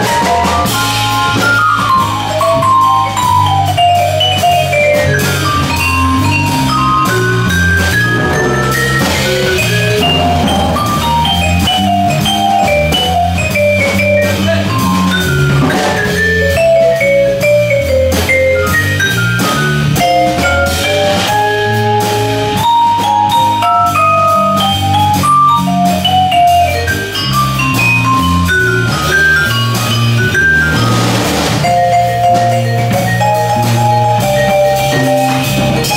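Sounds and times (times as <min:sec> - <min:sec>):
bass: 0:00.0 - 0:35.9
drum kit with cymbals: 0:00.0 - 0:35.9
jazz vibraphone solo: 0:00.0 - 0:35.9.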